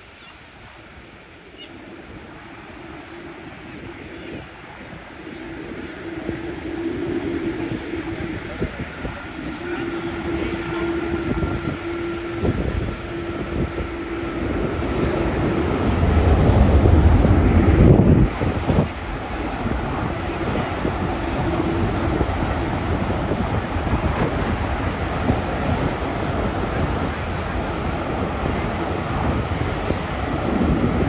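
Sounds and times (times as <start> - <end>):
jet airliner engines passing: 0.0 - 31.0.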